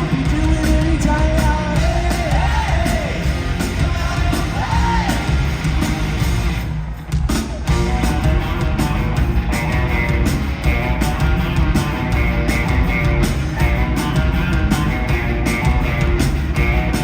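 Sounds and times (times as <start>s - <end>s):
electric guitars: 0.0s - 6.9s, 7.5s - 17.0s
driving drum beat: 0.0s - 17.0s.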